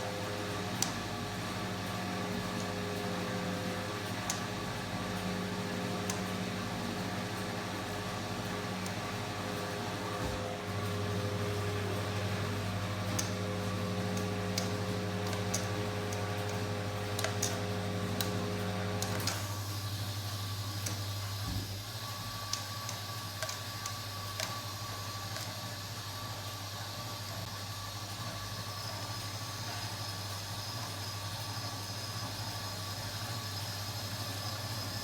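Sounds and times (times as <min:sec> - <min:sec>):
washing machine hum: 0:00.0 - 0:35.0.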